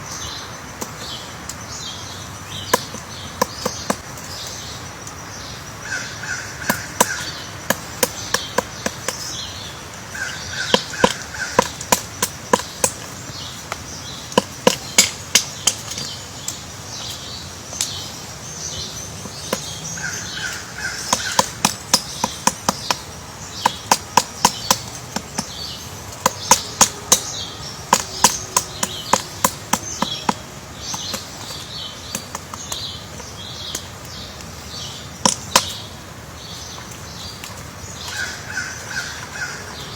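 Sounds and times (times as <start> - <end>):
birds chirping: 0.0 - 39.9
woodpecker pecking at wood: 2.2 - 4.8, 5.9 - 39.9.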